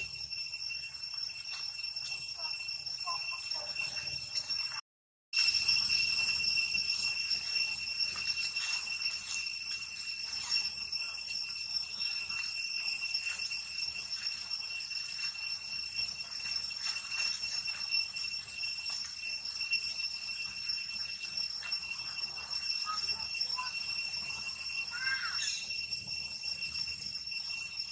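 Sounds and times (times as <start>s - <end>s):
shrill insect chorus: 0.0s - 4.8s, 5.4s - 27.9s.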